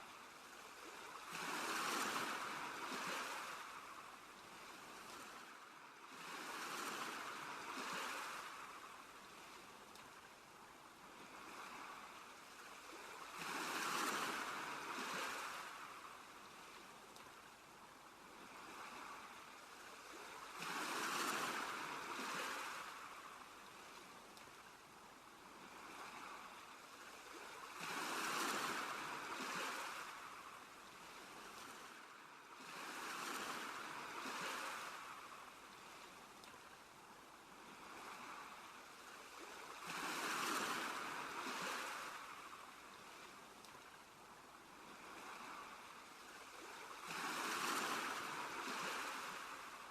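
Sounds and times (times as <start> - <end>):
ocean waves breaking on shore: 0.0 - 49.9.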